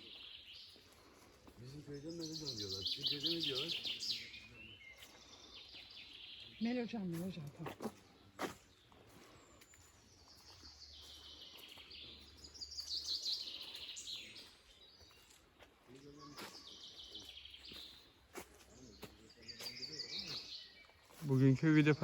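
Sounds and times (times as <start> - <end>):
songbird chattering: 1.6 - 22.0.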